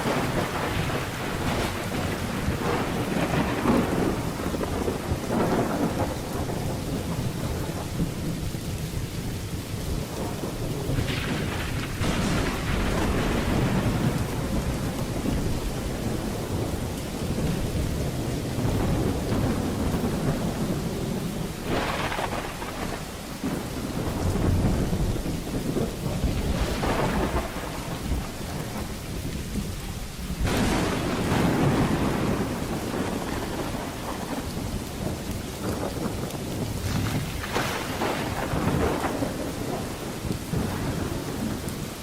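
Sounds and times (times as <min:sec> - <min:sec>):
sharp thunder claps: 0:00.0 - 0:08.6, 0:09.8 - 0:29.4, 0:30.4 - 0:42.0
steady rain: 0:00.0 - 0:42.0
thunder rumbling: 0:00.0 - 0:42.0.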